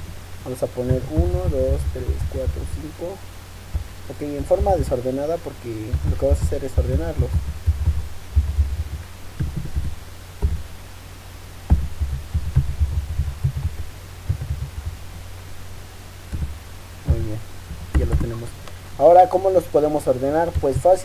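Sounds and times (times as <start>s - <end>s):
dull keyboard typing thumps: 0.0s - 10.8s, 11.6s - 15.3s, 16.3s - 21.0s
low electrical hum: 0.0s - 21.0s.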